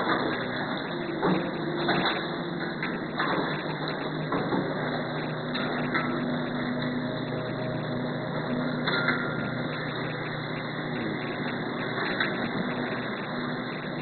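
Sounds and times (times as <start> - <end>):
packaging machine humming: 0.0 - 14.0.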